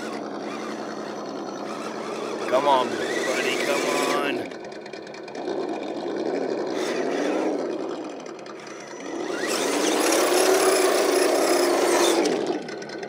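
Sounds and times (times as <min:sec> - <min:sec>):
rc truck motor whine: 0:00.0 - 0:13.0.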